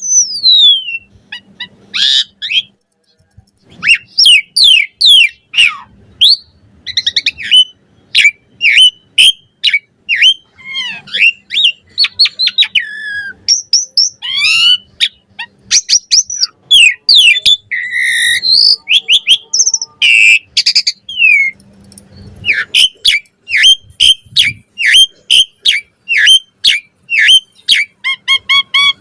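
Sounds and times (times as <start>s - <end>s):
starling singing chatter song: 0.0s - 29.0s.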